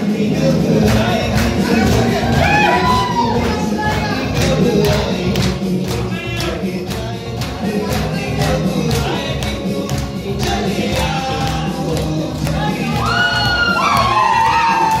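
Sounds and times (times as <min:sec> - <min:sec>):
amplified live music: 0:00.0 - 0:15.0
percussion beat: 0:00.0 - 0:15.0
person singing: 0:00.0 - 0:15.0.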